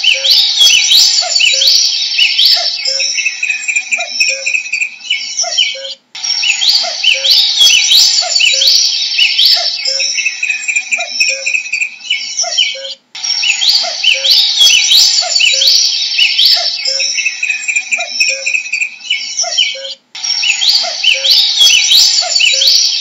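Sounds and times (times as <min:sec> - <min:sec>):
cuckoo calling: 0:00.0 - 0:23.0
songbirds singing: 0:00.0 - 0:23.0.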